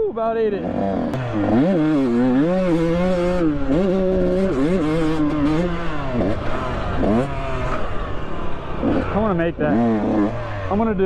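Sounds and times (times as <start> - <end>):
two-stroke dirt bike engine: 0.4 - 11.0.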